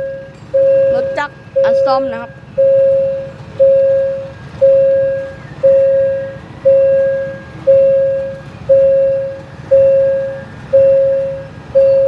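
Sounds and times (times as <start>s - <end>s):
level-crossing warning bell: 0.0s - 12.0s.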